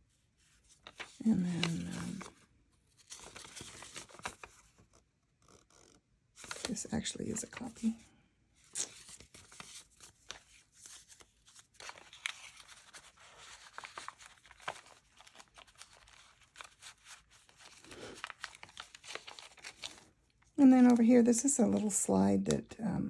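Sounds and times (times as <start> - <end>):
paper rustling and crinkling: 0.4 - 8.0, 8.6 - 22.5.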